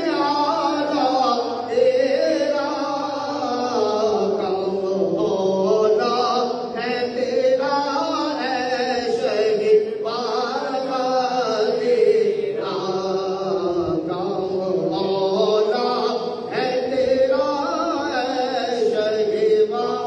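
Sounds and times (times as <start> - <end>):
man singing devotional chant: 0.0 - 20.0.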